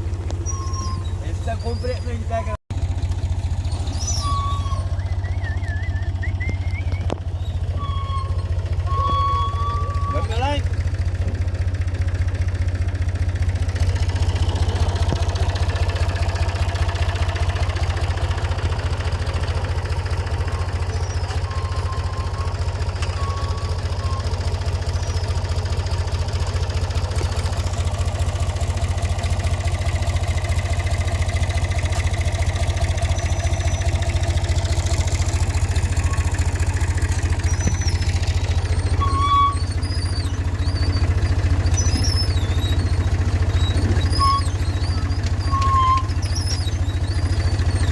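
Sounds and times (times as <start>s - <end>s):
tractor engine throbbing: 0.0s - 47.9s.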